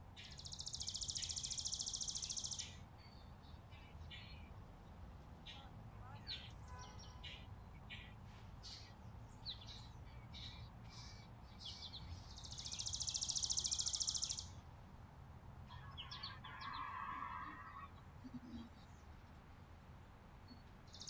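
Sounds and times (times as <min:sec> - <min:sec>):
songbirds chipping: 0:00.0 - 0:14.9, 0:15.6 - 0:21.0.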